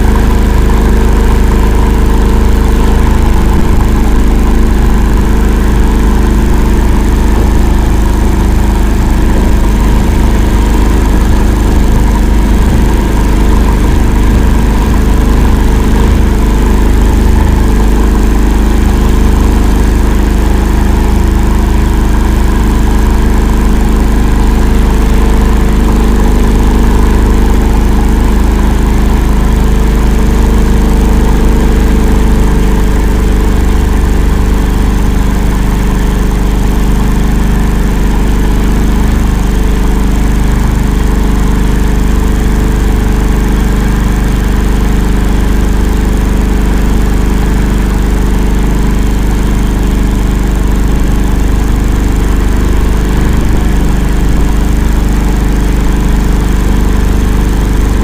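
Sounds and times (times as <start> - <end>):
vehicle engine loud low drone: 0.0 - 58.0.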